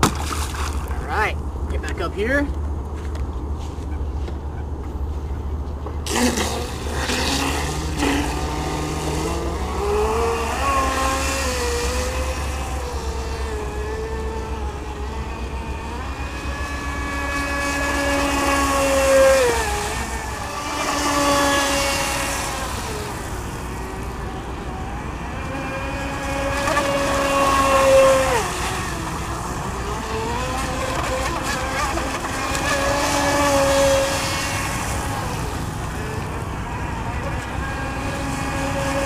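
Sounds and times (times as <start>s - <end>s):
rc boat motor whining: 3.8s - 39.0s.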